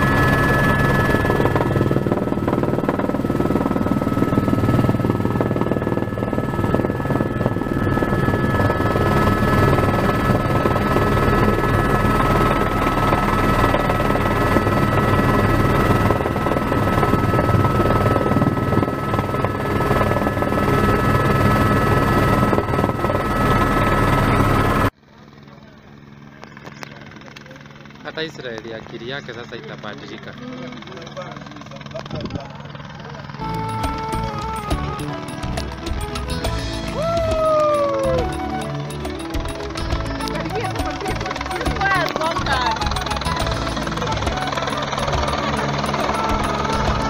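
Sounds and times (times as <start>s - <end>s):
helicopter rotor drone: 0.0s - 47.0s
helicopter turbine whine: 0.0s - 47.0s.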